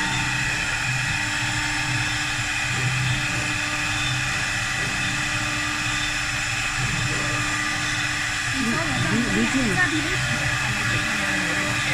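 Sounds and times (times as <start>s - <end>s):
lathe machine whining: 0.0s - 11.9s.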